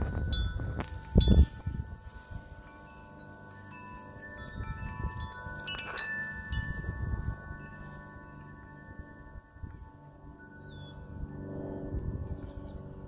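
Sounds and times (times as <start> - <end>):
wind chimes ringing: 0.0 - 13.0.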